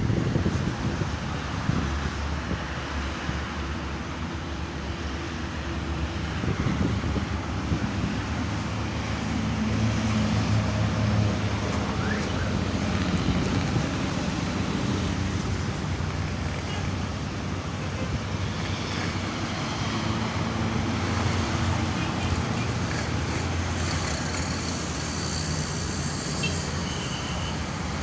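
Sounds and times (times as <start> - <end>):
passing traffic: 0.0 - 28.0.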